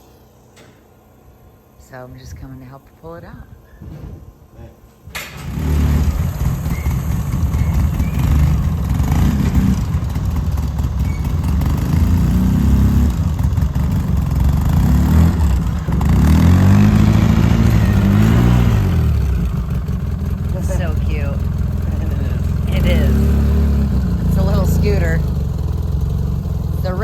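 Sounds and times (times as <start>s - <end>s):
utility vehicle engine revving: 5.4s - 27.0s.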